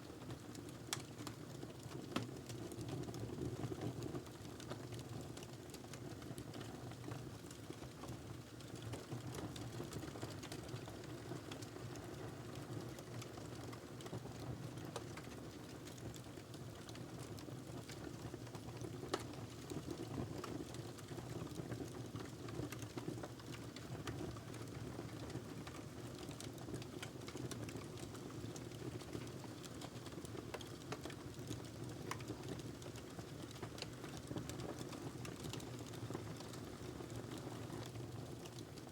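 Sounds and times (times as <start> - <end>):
wood fire crackling: 0.2 - 2.8, 4.5 - 38.5.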